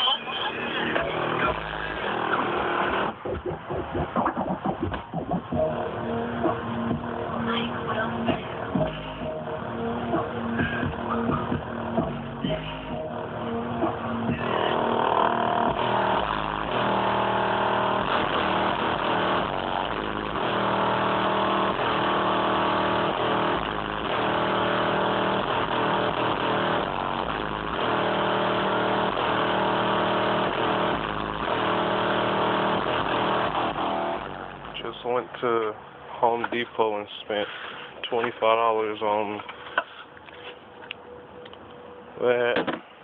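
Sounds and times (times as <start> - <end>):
song on bass-heavy car stereo: 0.0 - 35.1.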